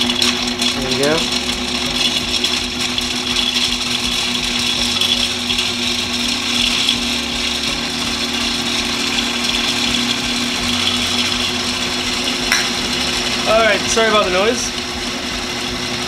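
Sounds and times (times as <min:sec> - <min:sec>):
food processor motor whirring: 0:00.0 - 0:16.0.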